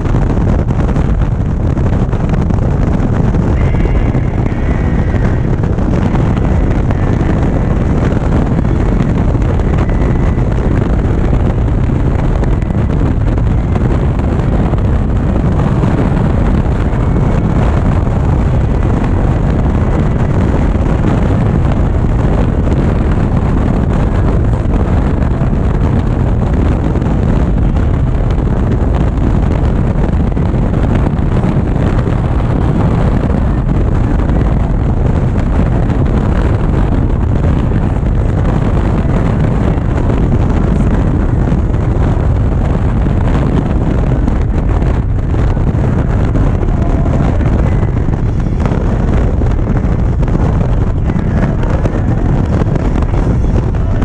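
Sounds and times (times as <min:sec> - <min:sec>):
motorcycle engine: 0:00.0 - 0:54.0
wind rushing over microphone: 0:00.0 - 0:54.0.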